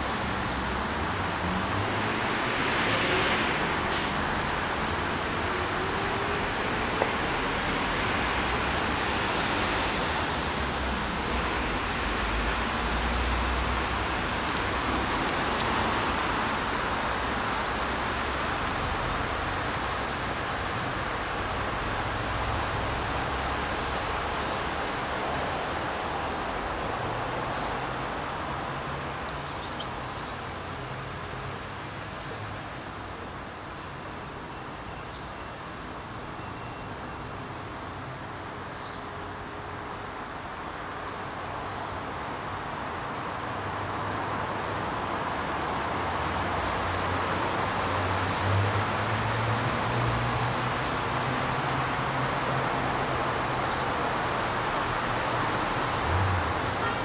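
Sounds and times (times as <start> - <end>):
background traffic noise: 0.0 - 57.0.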